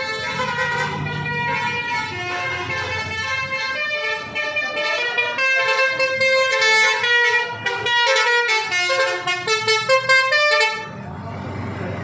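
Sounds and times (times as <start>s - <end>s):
bus musical air horn: 0.0s - 11.0s.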